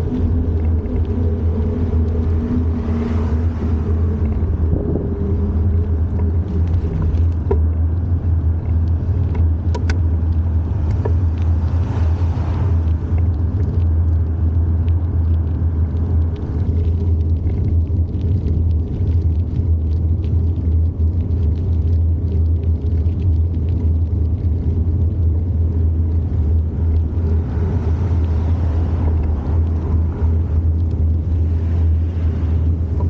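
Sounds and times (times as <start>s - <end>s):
faint hum: 0.0s - 33.0s
wind buffeting microphone: 0.0s - 33.0s.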